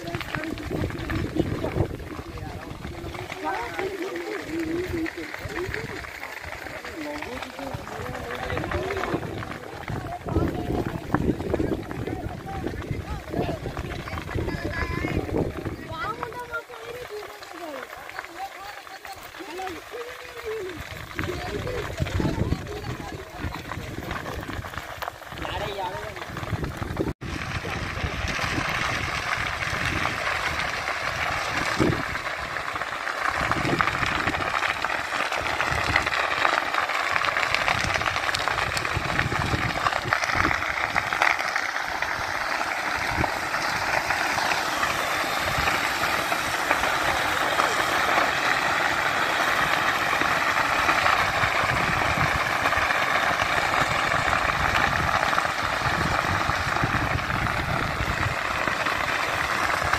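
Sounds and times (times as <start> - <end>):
fire crackling: 0.0 - 59.9
low pops of fire: 0.0 - 59.9.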